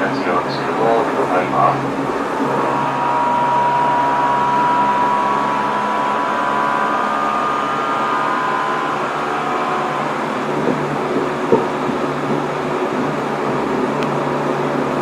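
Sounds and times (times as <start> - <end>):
thin high tones: 0.0 - 12.4
train wheels and motors rumbling: 0.0 - 15.0.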